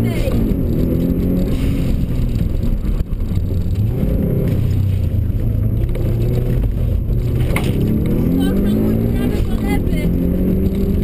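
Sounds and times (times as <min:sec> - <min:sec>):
car engine running loud: 0:00.0 - 0:11.0.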